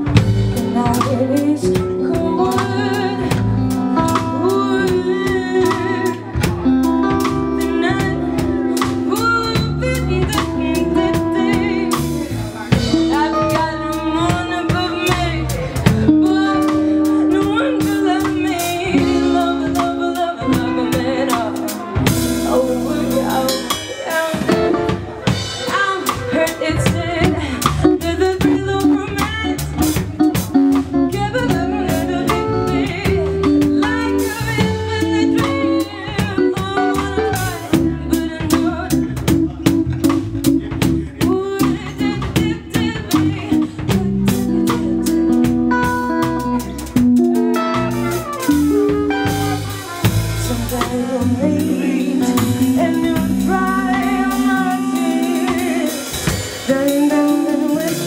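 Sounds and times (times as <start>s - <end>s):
drum kit snare and cymbal hits: 0.0s - 58.0s
electric guitar: 0.0s - 58.0s
woman singing: 0.0s - 58.0s.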